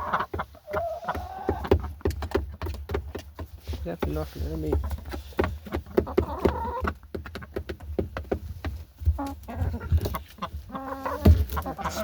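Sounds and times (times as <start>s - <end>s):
chickens clucking: 0.0s - 12.0s
chickens pecking grain: 0.0s - 12.0s.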